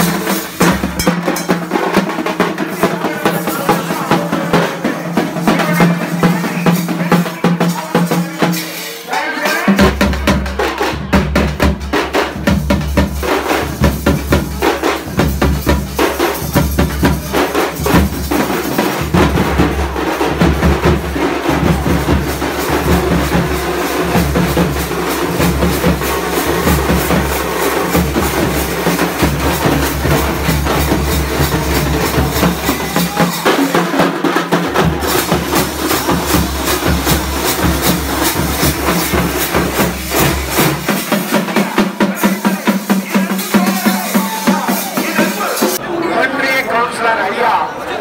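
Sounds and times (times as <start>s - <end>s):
music with driving drum beat: 0.0s - 45.8s.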